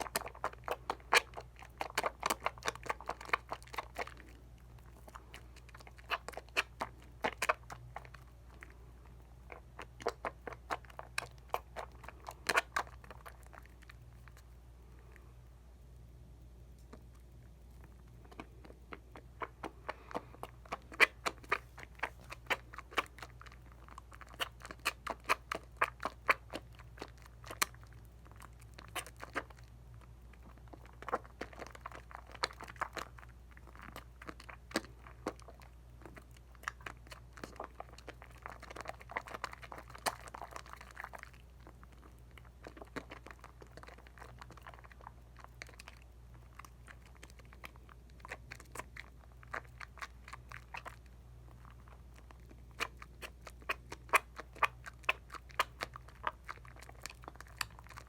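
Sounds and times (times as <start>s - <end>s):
soap lather squishing and crackling: 0.0s - 58.0s.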